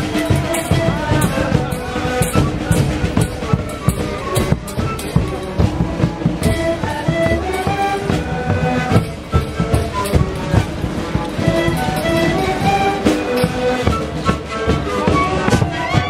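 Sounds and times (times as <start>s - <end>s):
panpipes: 0.0s - 16.0s
snare drum: 0.0s - 16.0s.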